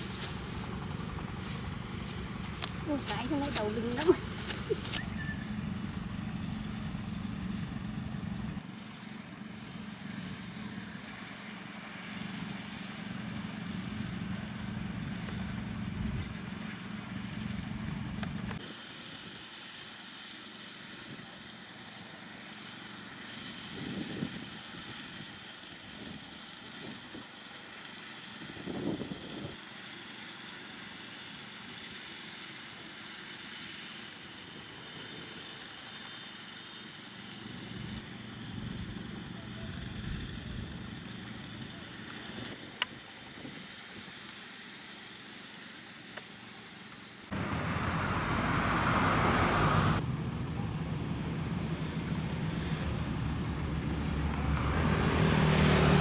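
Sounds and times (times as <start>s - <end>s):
small engine humming: 0.0s - 56.0s.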